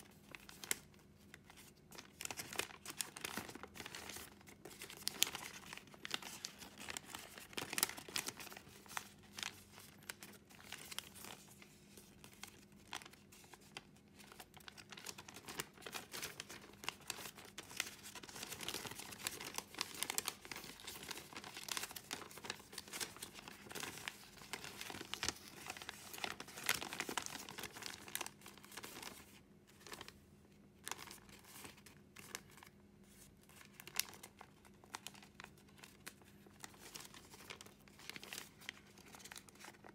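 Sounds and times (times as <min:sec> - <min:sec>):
faint steady hum: 0:00.0 - 0:39.9
paper crinkling and rustling: 0:00.0 - 0:39.9.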